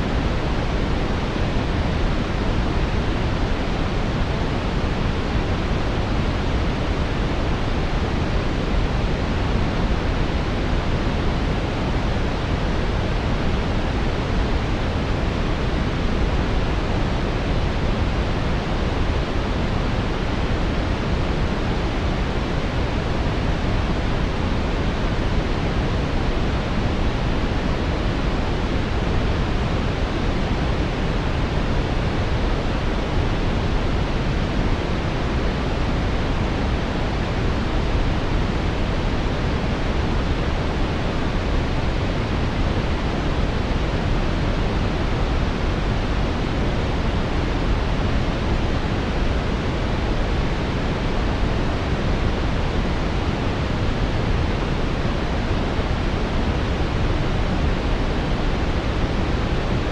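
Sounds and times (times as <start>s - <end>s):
brown noise rush: 0.0s - 59.9s.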